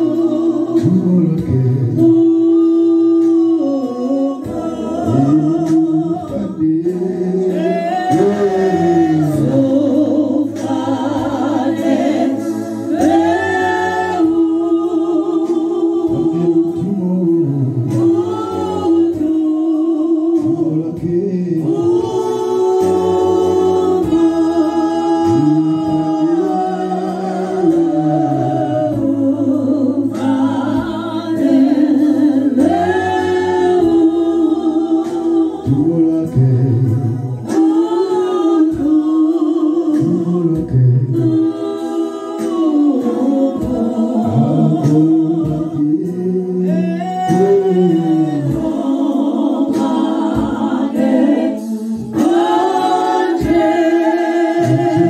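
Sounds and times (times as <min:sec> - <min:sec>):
congregation singing: 0:00.0 - 0:55.0.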